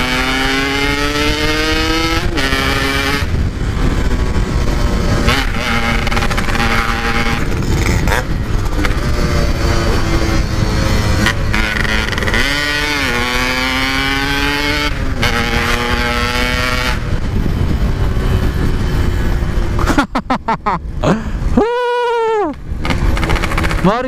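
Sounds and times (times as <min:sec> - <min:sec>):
two-stroke motorcycle engine accelerating: 0:00.0 - 0:20.2, 0:22.8 - 0:24.0
wind and road noise: 0:00.0 - 0:24.0.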